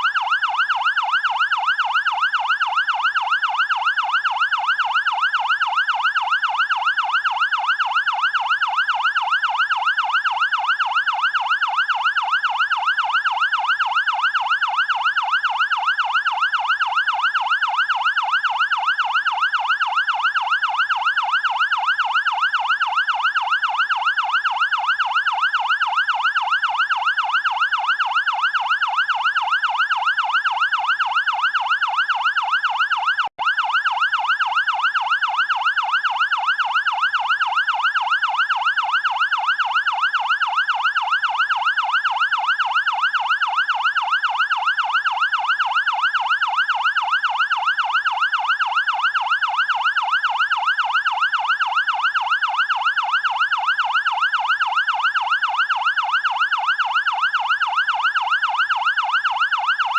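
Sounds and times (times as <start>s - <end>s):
fire engine siren yelp: 0.0s - 59.9s.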